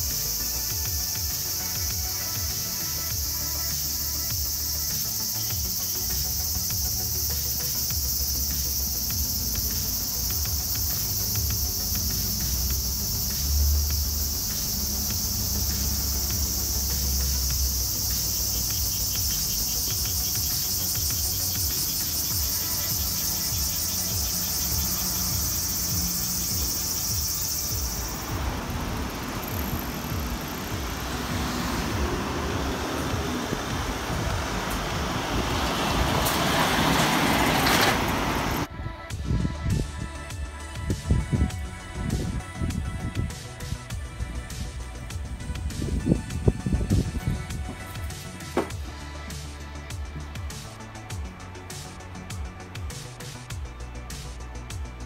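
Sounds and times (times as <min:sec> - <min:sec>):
cicadas buzzing: 0:00.0 - 0:38.7, 0:40.1 - 0:55.0
street traffic hum: 0:00.0 - 0:55.0.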